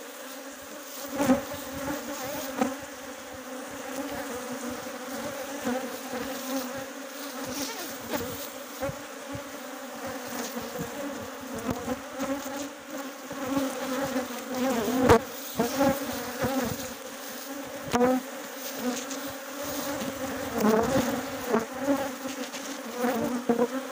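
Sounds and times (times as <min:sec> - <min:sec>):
honeybee colony buzzing: 0:00.0 - 0:23.9.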